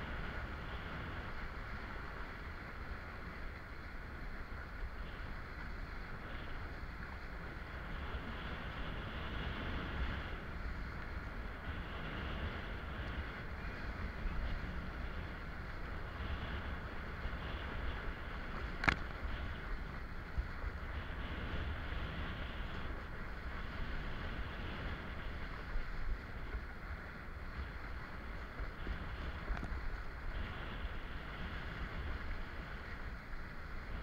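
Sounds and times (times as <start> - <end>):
water rushing under board: 0.0 - 34.0
wind buffeting microphone: 0.0 - 34.0.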